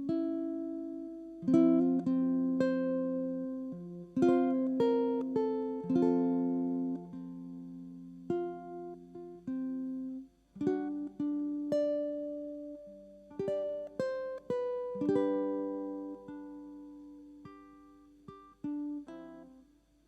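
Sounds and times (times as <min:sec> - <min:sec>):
fingerpicked ukulele: 0:00.0 - 0:20.0.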